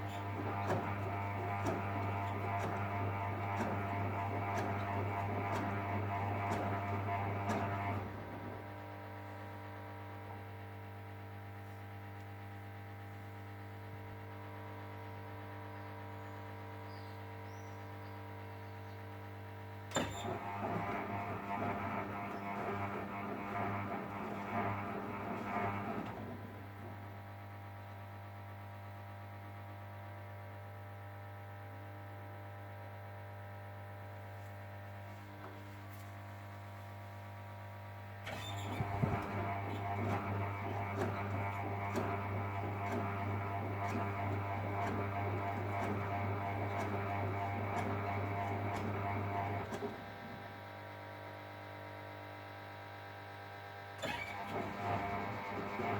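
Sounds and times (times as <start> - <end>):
washing machine humming: 0.0 - 52.8, 54.0 - 55.9.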